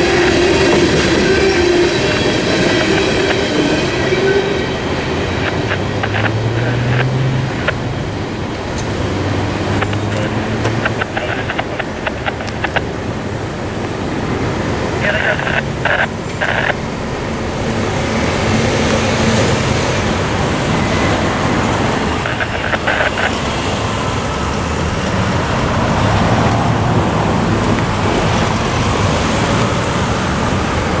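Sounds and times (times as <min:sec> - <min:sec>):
cars driving over railroad crossing: 0:00.0 - 0:31.0.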